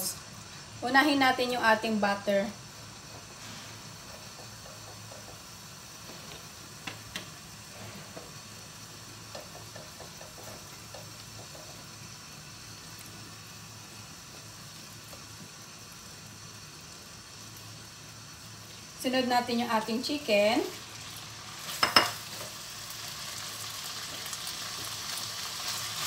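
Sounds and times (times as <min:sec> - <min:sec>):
butter sizzling: 0:00.0 - 0:26.0.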